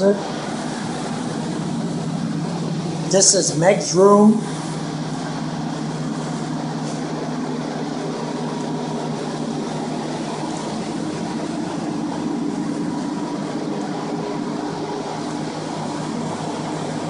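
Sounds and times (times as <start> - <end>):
blower fans humming: 0.0 - 17.0.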